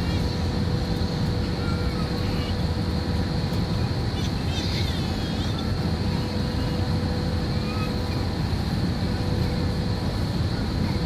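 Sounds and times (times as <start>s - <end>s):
airliner rumble: 0.0s - 11.0s
high whine: 0.0s - 11.0s.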